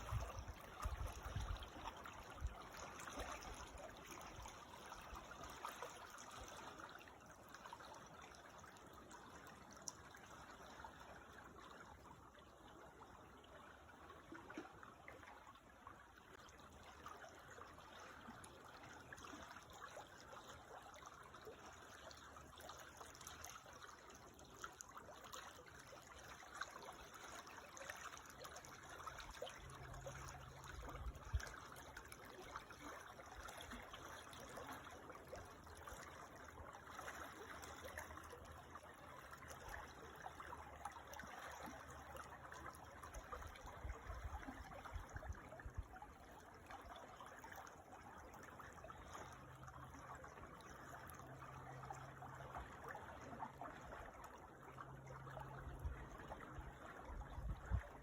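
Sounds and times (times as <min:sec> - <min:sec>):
creek water babbling over stones: 0:00.0 - 0:58.0.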